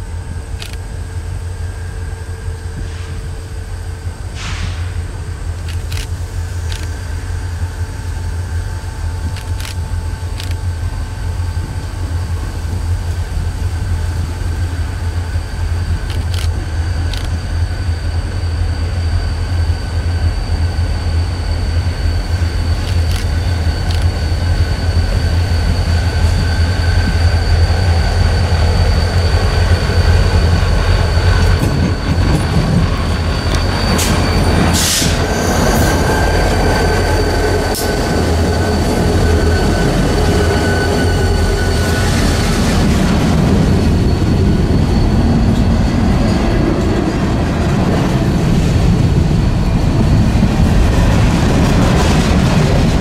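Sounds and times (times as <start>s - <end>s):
freight train rumbling: 0.0s - 53.0s
high wheel squeal: 6.3s - 53.0s.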